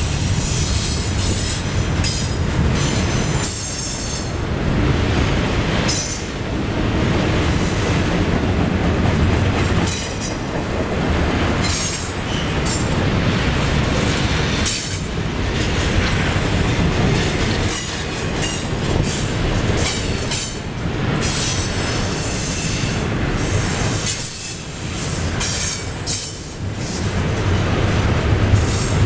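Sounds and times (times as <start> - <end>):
freight train wheels rumbling on rail: 0.0 - 29.0.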